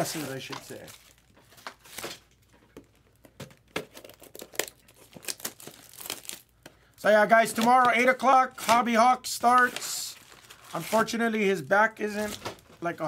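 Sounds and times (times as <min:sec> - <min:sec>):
foil packs crinkling: 0:00.0 - 0:13.0.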